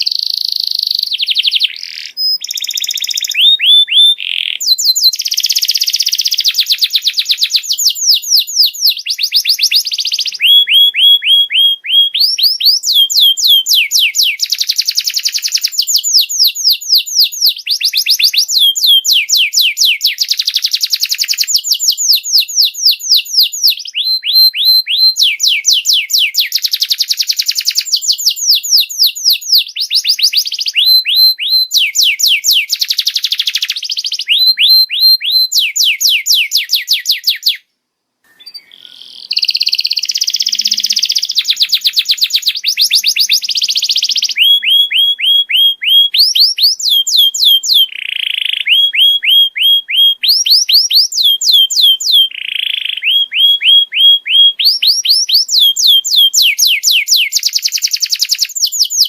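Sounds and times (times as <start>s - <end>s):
canary singing trills: 0.0s - 37.6s, 38.3s - 59.0s.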